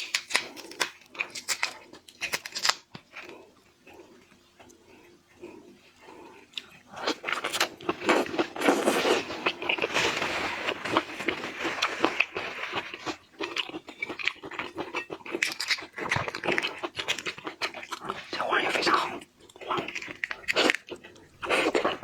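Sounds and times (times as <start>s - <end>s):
crunching and chewing shrimp: 0.0s - 22.0s.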